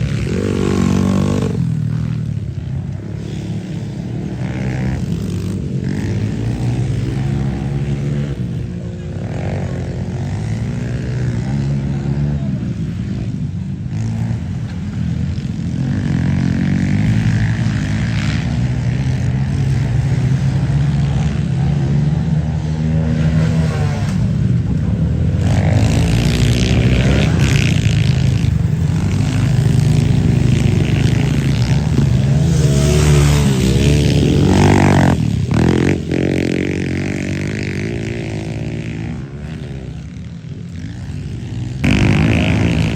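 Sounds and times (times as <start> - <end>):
pit bike engine revving: 0.0 - 42.9.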